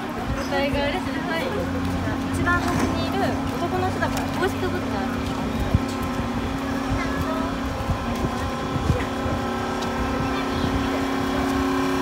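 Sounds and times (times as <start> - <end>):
platform chatter: 0.0 - 12.0
steam locomotive humming: 0.8 - 12.0.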